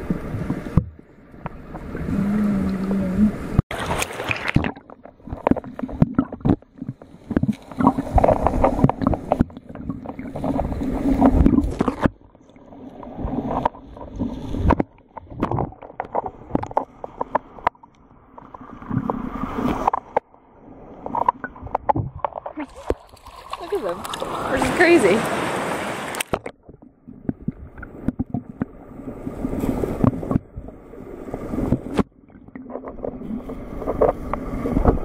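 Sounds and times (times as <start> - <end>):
muffled water sloshing and bubbling: 0.0 - 35.0.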